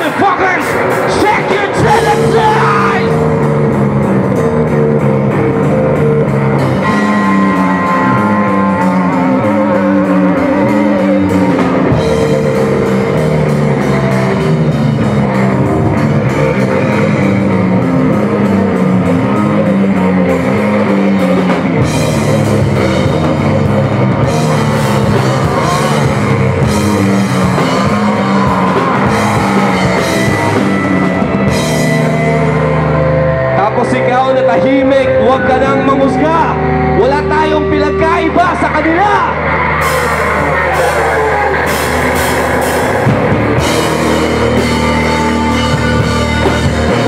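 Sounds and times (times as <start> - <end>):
distorted electric guitars riffing: 0.0 - 47.0
pounding drum kit: 0.0 - 47.0.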